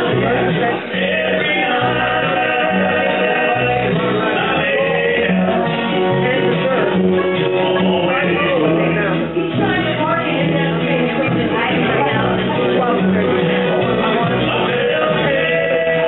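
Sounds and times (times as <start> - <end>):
man singing: 0.0 - 9.5, 12.6 - 16.0
bluegrass band playing: 0.0 - 16.0.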